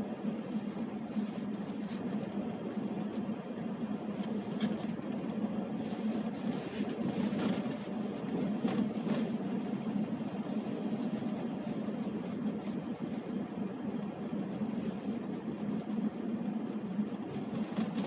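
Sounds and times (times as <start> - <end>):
car engine hum: 0.0 - 18.0.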